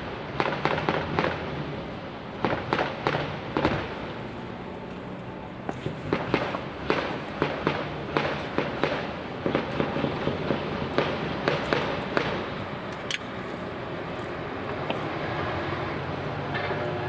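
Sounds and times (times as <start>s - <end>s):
diesel engine rumble: 0.0s - 17.0s.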